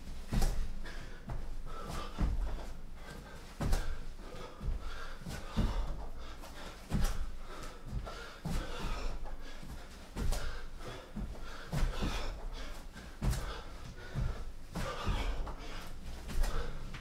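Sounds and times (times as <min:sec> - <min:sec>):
heavy puffing breaths: 0:00.0 - 0:17.0
thuds of hands and feet on mat: 0:00.0 - 0:17.0.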